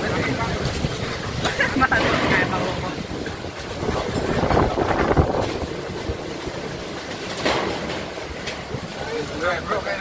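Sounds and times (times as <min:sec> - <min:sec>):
gusty wind buffeting microphone: 0:00.0 - 0:09.7.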